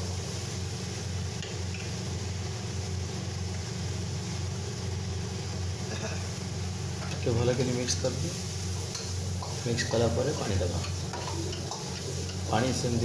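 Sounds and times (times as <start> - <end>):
kitchen equipment hum: 0.0 - 13.0
paste frying in a wok: 0.0 - 13.0.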